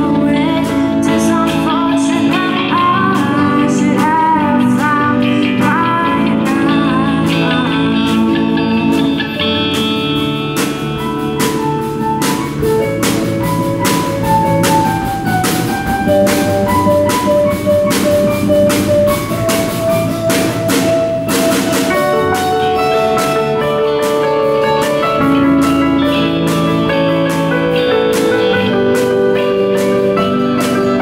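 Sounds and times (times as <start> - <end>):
drum kit beating: 0.0 - 31.0
guitar chords: 0.0 - 31.0
held melody notes: 0.0 - 31.0.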